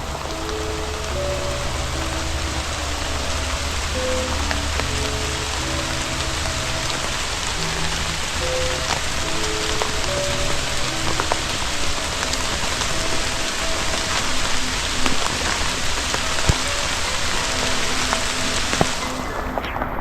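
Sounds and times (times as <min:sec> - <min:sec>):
heavy rain hissing: 0:00.0 - 0:20.0
sharp raindrop impacts: 0:00.0 - 0:20.0.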